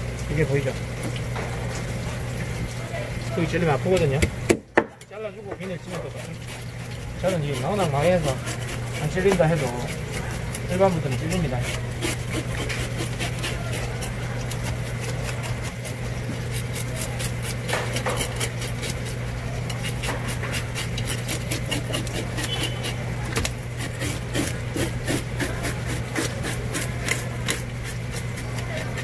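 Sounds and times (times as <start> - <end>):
knife scraping fish scales: 5.6 - 29.0.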